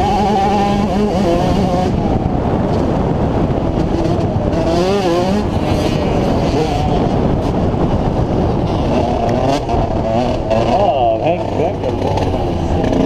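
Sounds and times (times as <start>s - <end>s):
two-stroke engine revving: 0.0s - 2.0s, 3.8s - 13.0s
wind rush on microphone: 0.0s - 13.0s.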